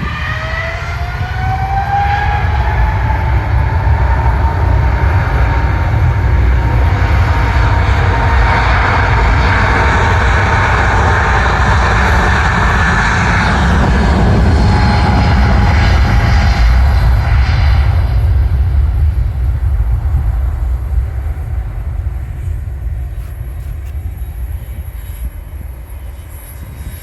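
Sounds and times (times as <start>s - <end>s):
jet engine hiss: 0.0s - 27.0s
jet engines roaring: 0.0s - 27.0s.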